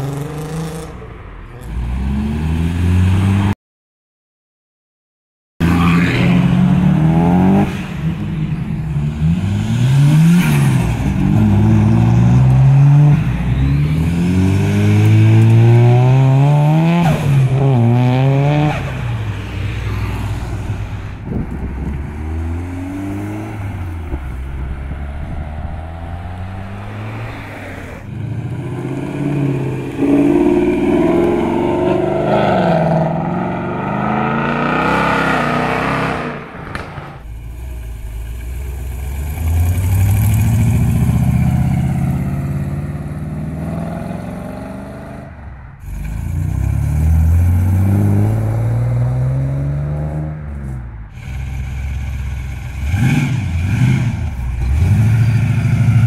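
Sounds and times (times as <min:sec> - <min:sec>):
car engine accelerating: 0:05.7 - 0:56.0.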